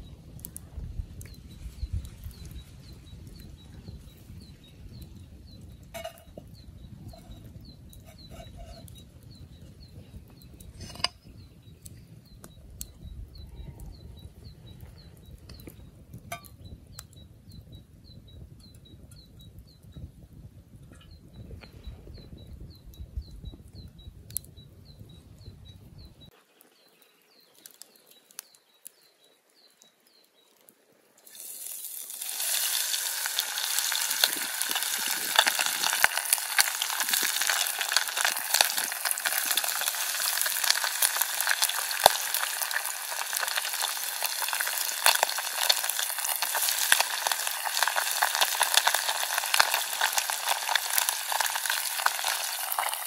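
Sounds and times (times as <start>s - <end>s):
chicken frying in hot oil: 0.0s - 26.3s, 31.2s - 53.0s.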